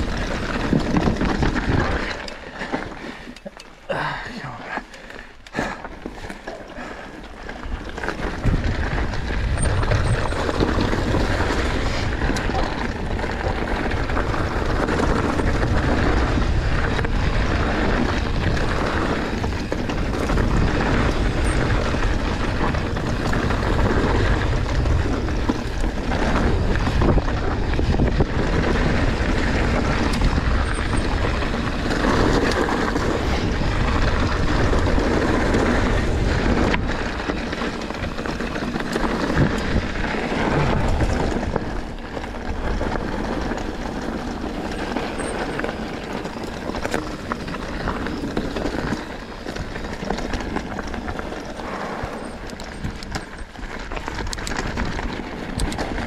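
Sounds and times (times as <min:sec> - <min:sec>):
wind buffeting microphone: 0:00.0 - 0:02.7, 0:07.6 - 0:56.0
bike tyre noise on dirt: 0:00.0 - 0:56.0.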